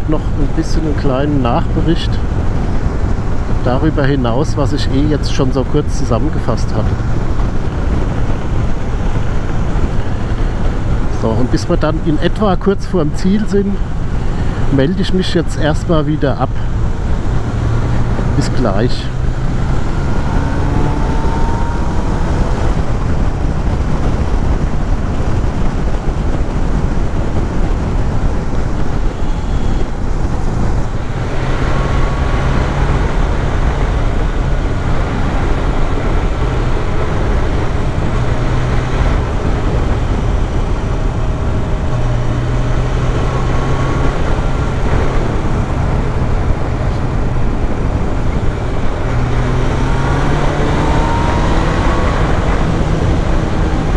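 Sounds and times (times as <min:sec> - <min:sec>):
motorcycle engine accelerating: 0:00.0 - 0:12.4, 0:15.9 - 0:53.9
wind noise on microphone: 0:00.0 - 0:53.9.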